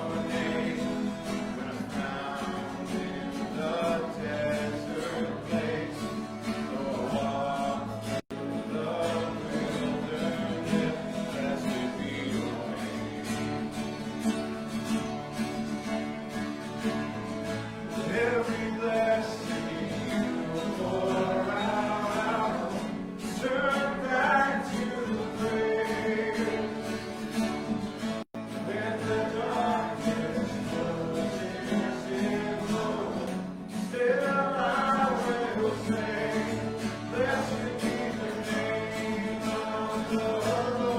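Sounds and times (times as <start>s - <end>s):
acoustic guitar: 0.0s - 40.9s
voices singing together: 0.0s - 40.9s.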